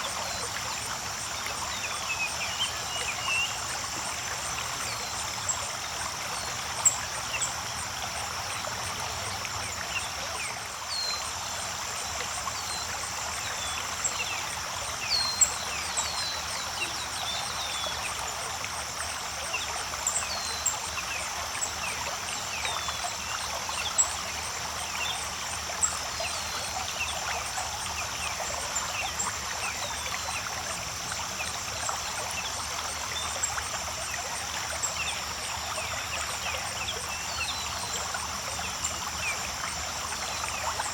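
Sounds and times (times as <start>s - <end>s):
creek water running: 0.0s - 40.9s.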